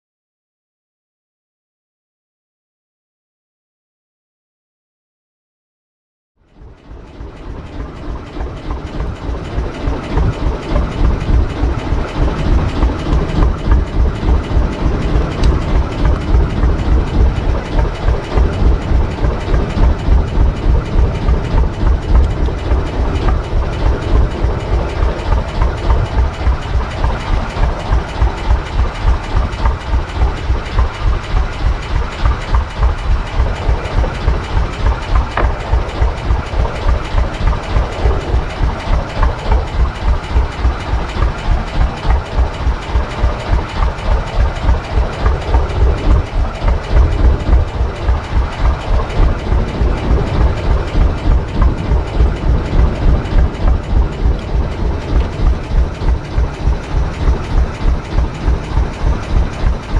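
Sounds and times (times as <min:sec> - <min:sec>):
boat motor chugging: 0:06.6 - 0:59.9.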